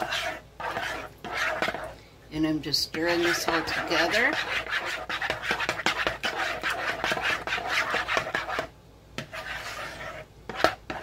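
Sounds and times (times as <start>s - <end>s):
spoon stirring thick mixture: 0.0s - 11.0s.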